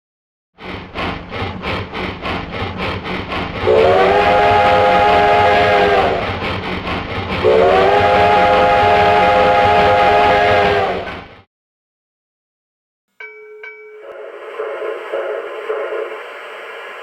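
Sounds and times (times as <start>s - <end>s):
steam locomotive exhaust chuffs: 0.6s - 11.5s, 14.0s - 17.0s.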